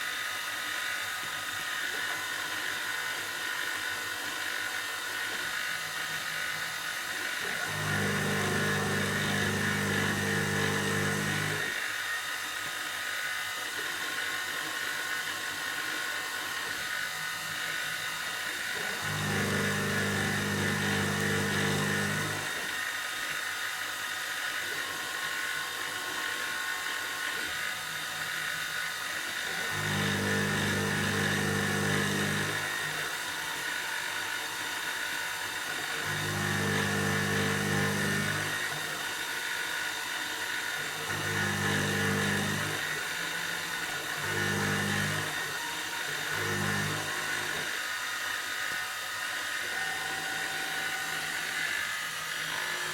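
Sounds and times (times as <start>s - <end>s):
milling spindle whine and hiss: 0.0s - 52.9s.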